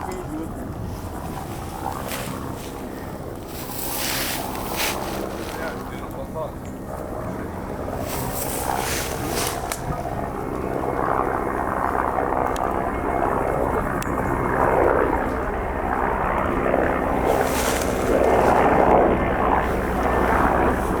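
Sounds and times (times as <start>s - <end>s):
helicopter engine and rotor drone: 0.0s - 21.0s.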